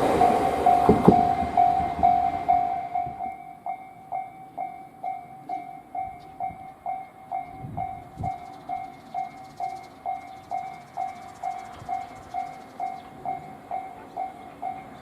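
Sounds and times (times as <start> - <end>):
level crossing alarm ringing: 0.0 - 15.0
train passing: 0.0 - 15.0.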